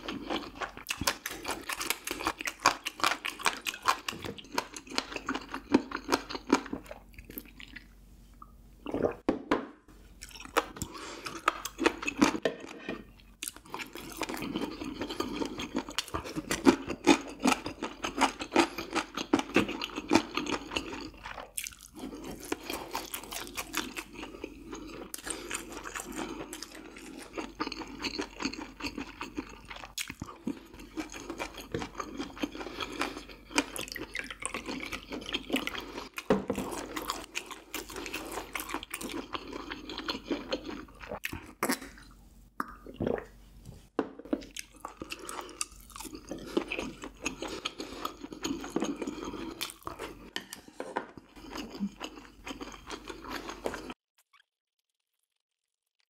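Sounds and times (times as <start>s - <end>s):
close chewing of food: 0.0s - 8.0s, 10.0s - 54.0s.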